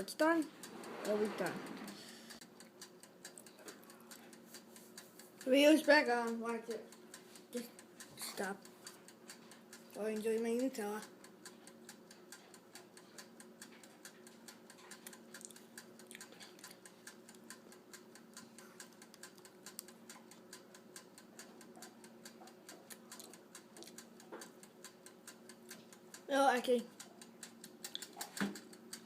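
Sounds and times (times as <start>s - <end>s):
mechanical timer ticking: 0.0s - 29.0s
oven hum: 0.0s - 29.0s.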